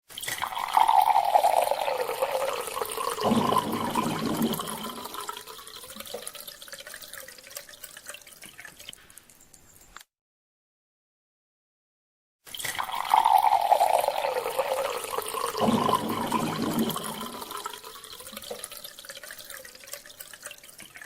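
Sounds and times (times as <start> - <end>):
water pouring into a glass: 0.1 - 9.8, 12.5 - 21.0.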